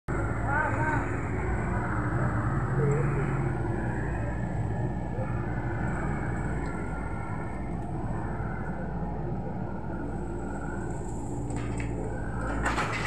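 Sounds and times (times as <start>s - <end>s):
excavator diesel engine running: 0.1s - 13.0s.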